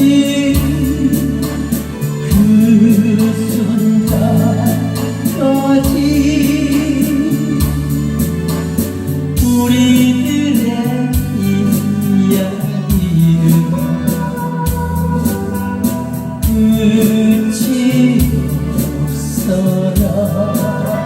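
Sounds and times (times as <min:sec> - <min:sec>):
band accompaniment with guitar: 0:00.0 - 0:21.0
person singing pop song: 0:00.0 - 0:21.0.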